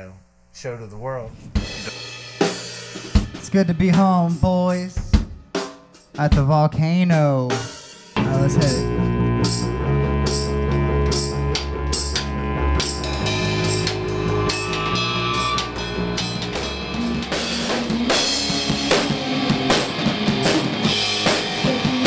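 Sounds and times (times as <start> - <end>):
held bass and instrument notes: 1.0 - 22.0
rock drum kit beat: 1.4 - 22.0.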